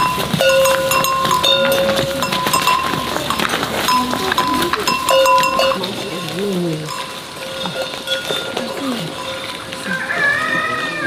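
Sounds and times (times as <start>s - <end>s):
clinks and clicks: 0.0s - 10.2s
background voices: 0.0s - 11.0s.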